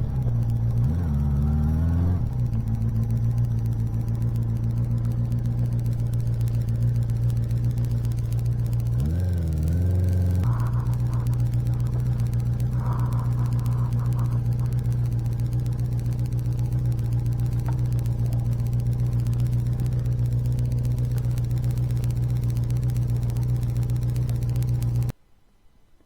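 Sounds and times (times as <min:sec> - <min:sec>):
motorcycle engine running: 0:00.0 - 0:25.1.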